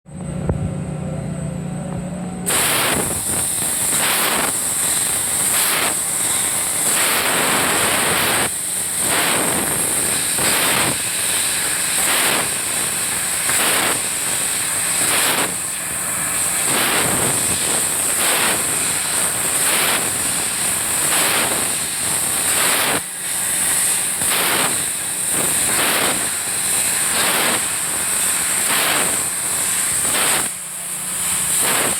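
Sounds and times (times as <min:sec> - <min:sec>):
low machine hum: 0:00.1 - 0:31.7
laser cutter hissing: 0:02.4 - 0:31.9.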